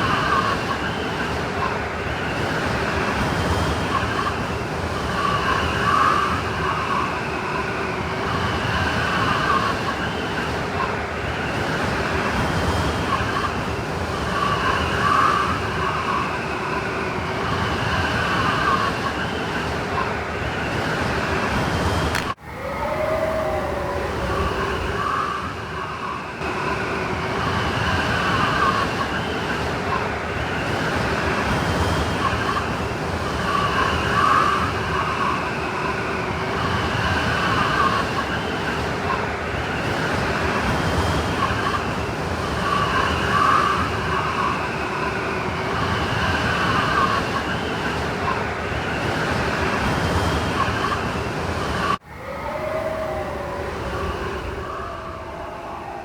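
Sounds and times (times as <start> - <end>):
blizzard wind through trees: 0.0 - 56.0
faint howling whistle of wind: 0.0 - 56.0.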